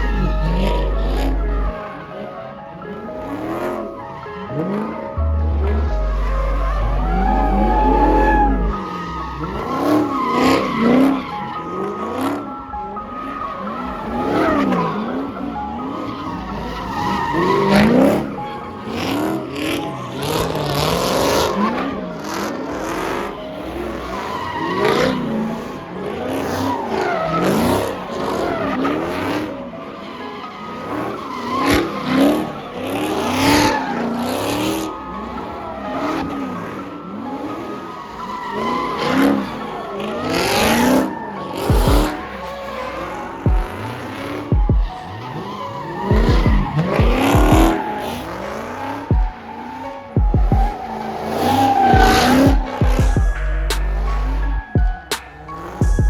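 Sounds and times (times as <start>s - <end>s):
car engines revving: 0.0s - 56.0s
tires squealing on pavement: 0.0s - 56.0s.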